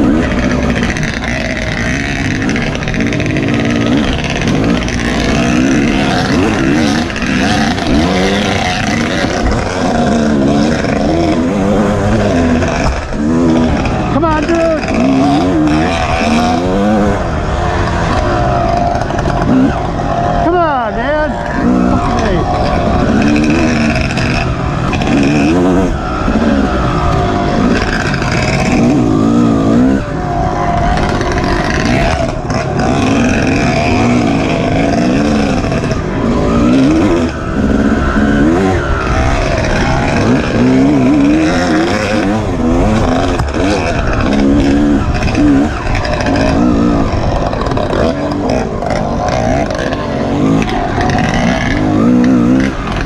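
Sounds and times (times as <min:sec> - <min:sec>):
dirt bike engine revving: 0:00.0 - 0:53.0
steady rush of noise: 0:00.0 - 0:53.0.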